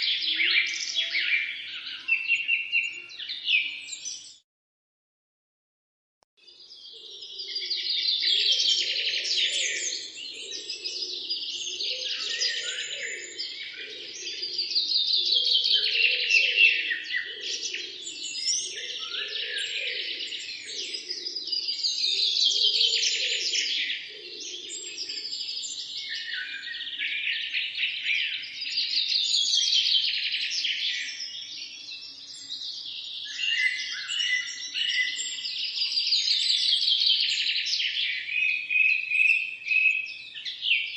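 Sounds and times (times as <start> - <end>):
small birds chirping: 0.0 - 4.4, 6.4 - 40.9.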